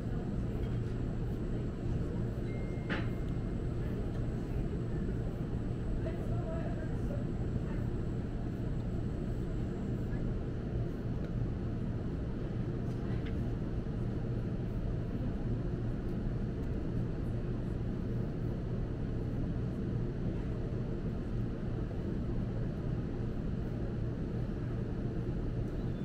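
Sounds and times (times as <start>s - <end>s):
store background rumble and hum: 0.0s - 26.0s.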